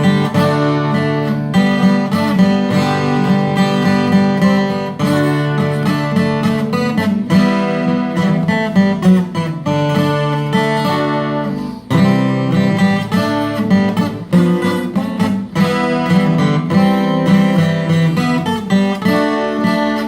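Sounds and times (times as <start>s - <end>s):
twelve-string acoustic guitar: 0.0s - 20.0s.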